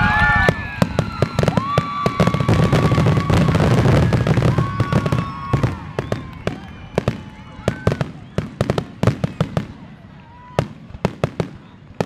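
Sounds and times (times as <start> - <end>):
fireworks crackling: 0.0 - 12.0
whistling firework shells: 0.0 - 12.0.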